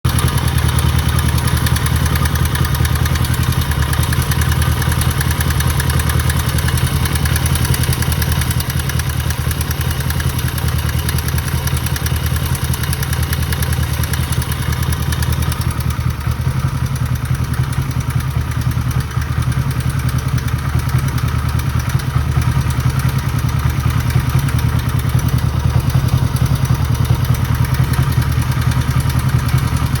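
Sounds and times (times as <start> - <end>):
motorcycle engine running: 0.0 - 30.0
engine rattle: 0.1 - 30.0.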